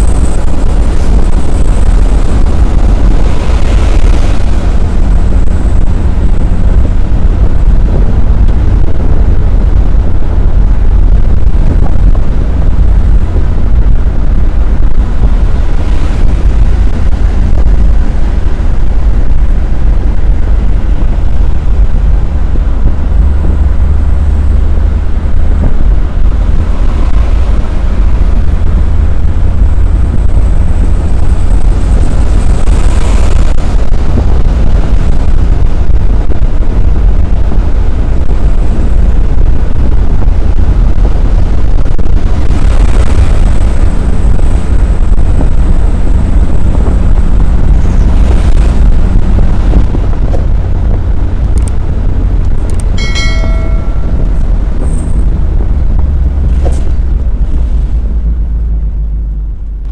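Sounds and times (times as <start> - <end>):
vehicle cab road rumble: 0.0 - 59.9.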